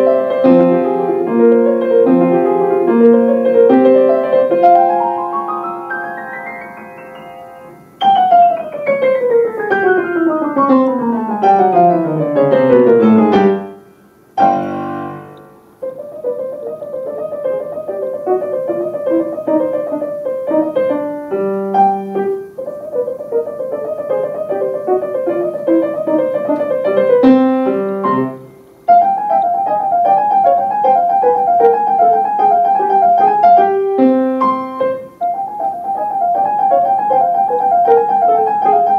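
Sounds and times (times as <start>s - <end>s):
solo grand piano: 0.0s - 38.9s.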